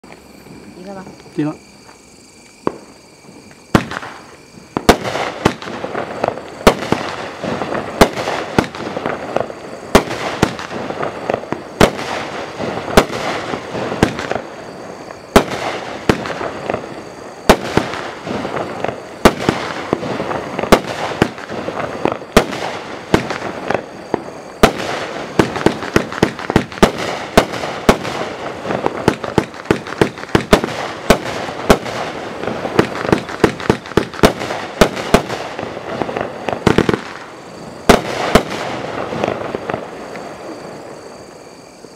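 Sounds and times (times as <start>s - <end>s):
firework crackling: 0.0s - 41.9s
fireworks cake firing sharp reports: 3.7s - 40.4s.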